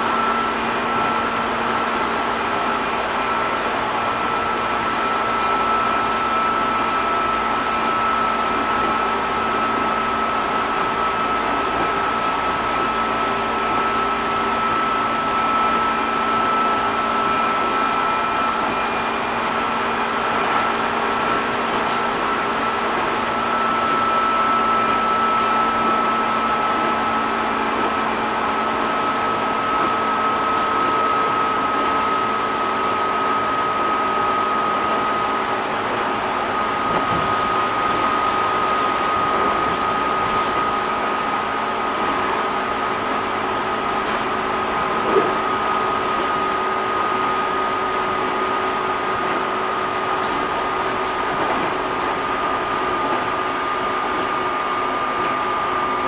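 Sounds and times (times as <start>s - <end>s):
electric train interior rumble: 0.0s - 56.0s
high train whine: 0.0s - 56.0s.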